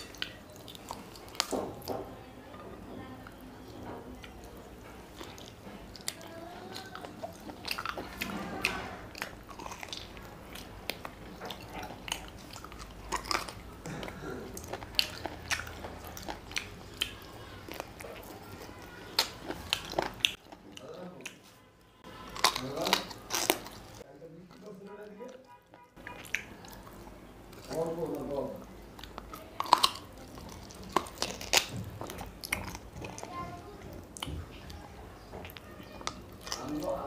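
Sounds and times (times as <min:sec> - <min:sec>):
person chewing food: 0:00.0 - 0:02.1, 0:03.3 - 0:37.0.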